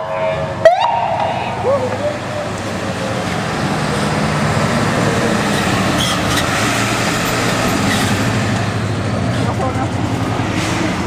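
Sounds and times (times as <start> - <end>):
large vehicle engine droning: 0.0 - 11.0
street traffic noise: 0.0 - 11.0.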